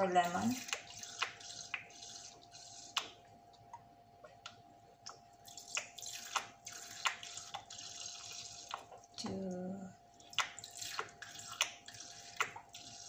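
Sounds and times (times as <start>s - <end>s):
faint steady hum: 0.0s - 13.0s
liquid dripping and spattering: 0.0s - 13.0s.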